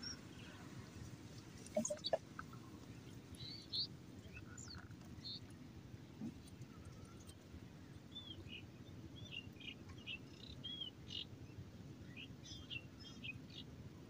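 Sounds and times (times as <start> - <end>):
small birds chirping: 0.0 - 13.7
faint low outdoor rumble: 0.0 - 14.0.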